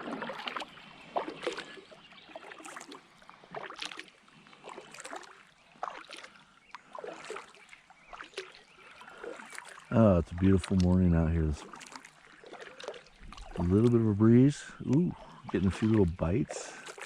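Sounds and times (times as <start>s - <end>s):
paddle splashing in water: 0.0s - 17.0s
water dripping: 0.0s - 17.0s.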